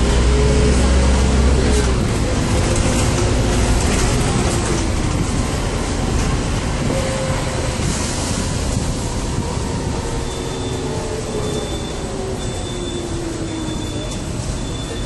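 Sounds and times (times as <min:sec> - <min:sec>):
bus cabin rumble: 0:00.0 - 0:15.0.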